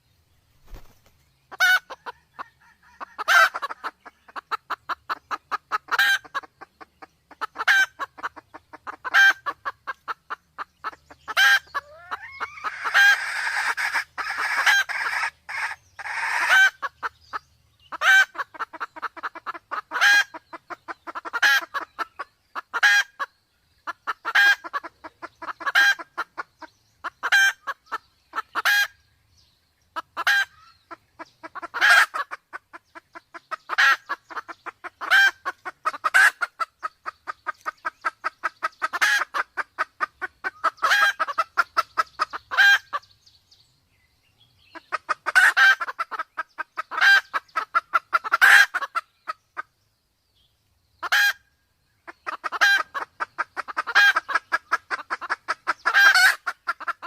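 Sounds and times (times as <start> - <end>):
hen clucking: 0.6 - 29.1, 29.9 - 43.2, 44.6 - 49.7, 51.0 - 51.4, 52.0 - 57.0.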